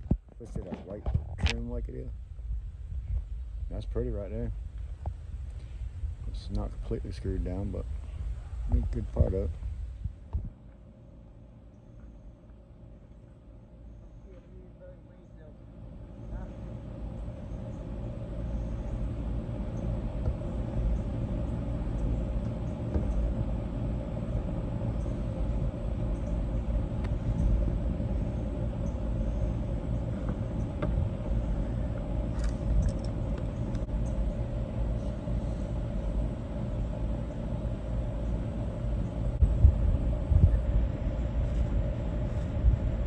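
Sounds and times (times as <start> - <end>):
mid-pitched hum: 0.0 - 43.0
steady low rumble: 0.0 - 43.0.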